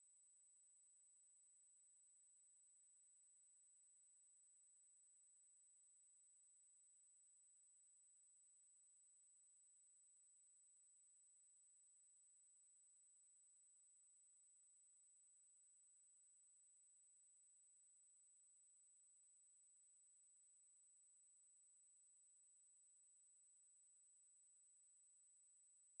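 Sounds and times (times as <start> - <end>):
high-pitched sine-wave test tone: 0.0 - 26.0.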